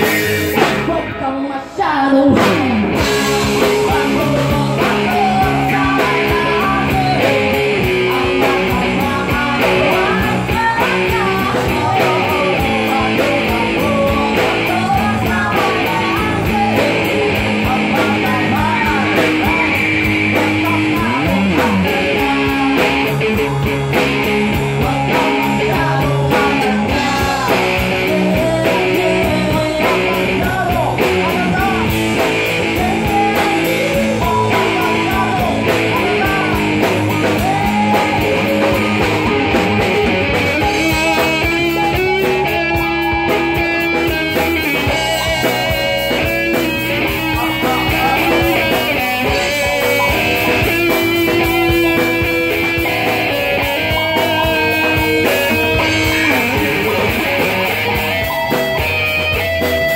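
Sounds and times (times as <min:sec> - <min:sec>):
live rock band playing: 0:00.0 - 0:59.9
person singing: 0:00.0 - 0:59.9.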